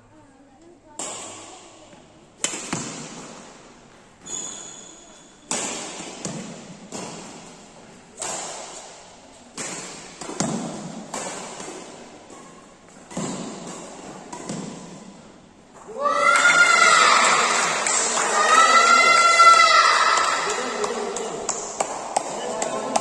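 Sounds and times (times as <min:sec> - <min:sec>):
rackets hitting shuttlecock: 0:01.0 - 0:18.4, 0:19.1 - 0:23.0.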